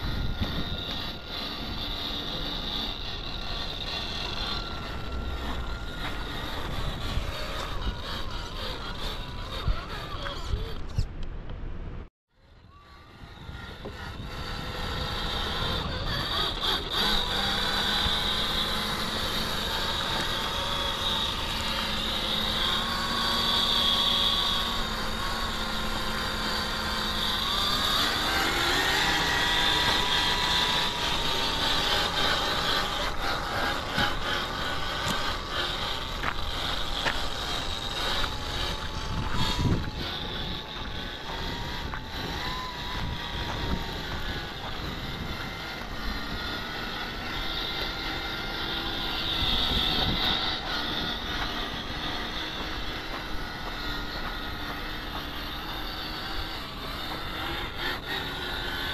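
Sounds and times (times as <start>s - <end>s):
toy car motor whining: 0.0s - 11.2s, 12.3s - 58.9s.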